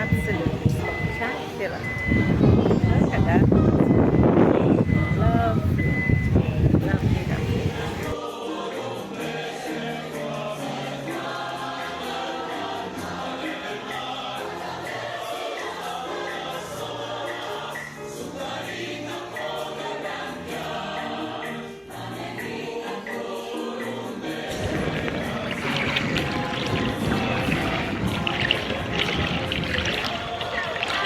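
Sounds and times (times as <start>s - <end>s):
choral music: 0.0s - 31.0s.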